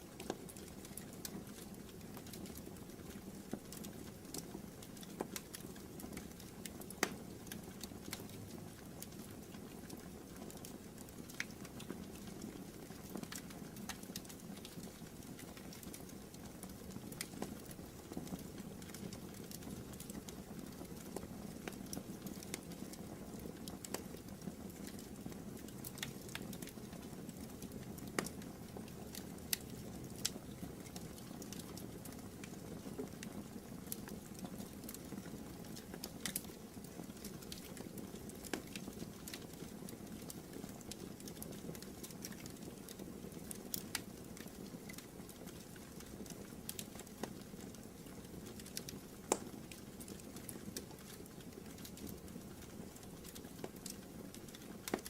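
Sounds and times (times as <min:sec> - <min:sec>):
fire crackles and pops: 0:00.0 - 0:55.0
wood fire burning: 0:00.0 - 0:55.0.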